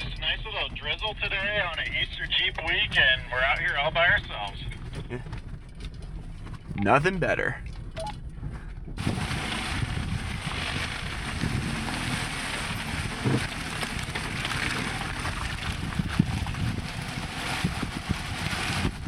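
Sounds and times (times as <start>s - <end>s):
vehicle driving on dirt trail: 0.0s - 19.0s.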